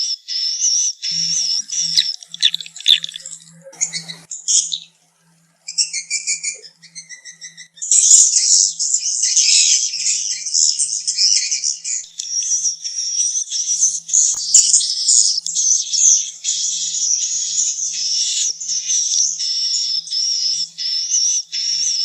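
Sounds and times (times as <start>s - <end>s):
swiftlet twittering chirps: 1.0s - 4.9s, 5.7s - 22.0s.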